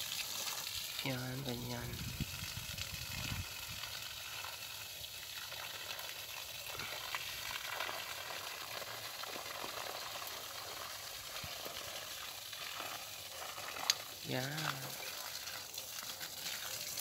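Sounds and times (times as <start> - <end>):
hose water splashing on leaves: 0.0 - 17.0.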